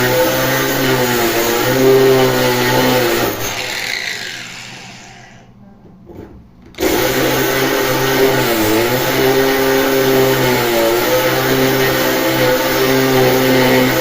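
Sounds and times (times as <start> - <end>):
electric drill grinding into stone: 0.0 - 5.5, 6.8 - 14.0.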